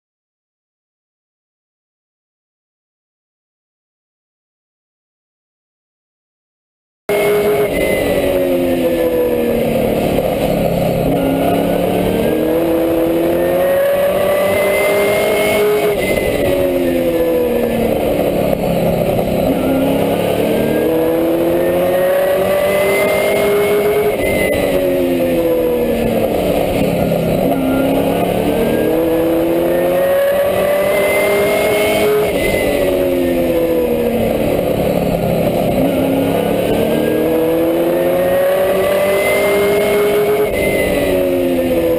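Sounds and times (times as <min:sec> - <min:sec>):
race truck engine revving: 0:07.1 - 0:41.9.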